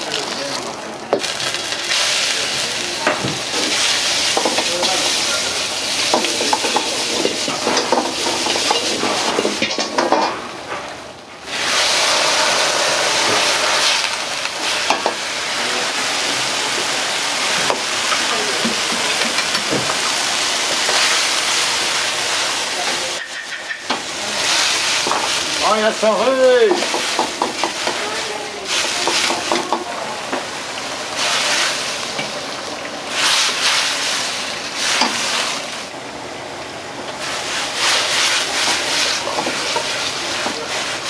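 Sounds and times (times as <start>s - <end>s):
food sizzling in hot oil: 0.0s - 10.6s, 11.4s - 41.0s.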